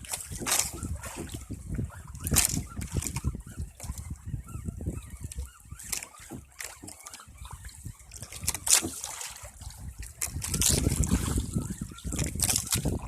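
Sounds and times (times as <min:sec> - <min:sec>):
water sloshing and splashing: 0:00.0 - 0:13.0
wind buffeting microphone: 0:00.0 - 0:13.0.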